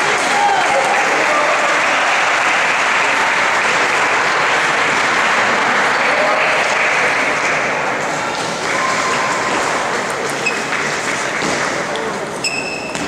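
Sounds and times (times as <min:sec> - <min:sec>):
faint voices: 0:00.0 - 0:13.0
sports hall din: 0:00.0 - 0:13.0.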